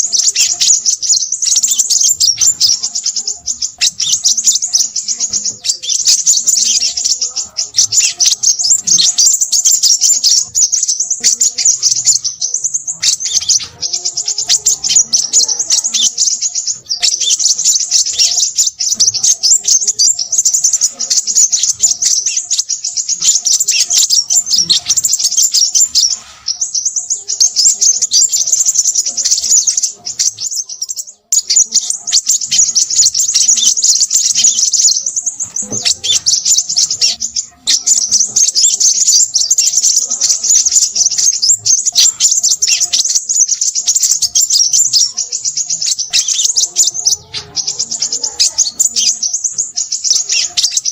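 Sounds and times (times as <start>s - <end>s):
bird twittering: 0.0s - 50.9s.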